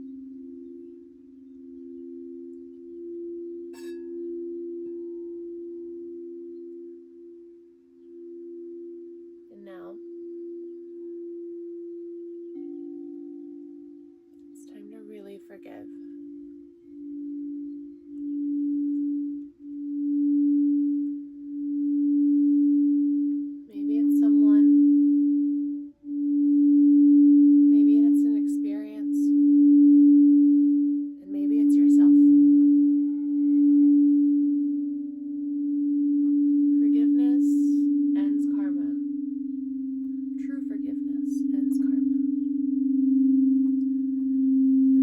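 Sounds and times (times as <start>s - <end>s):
singing bowls drone: 0.0s - 45.0s.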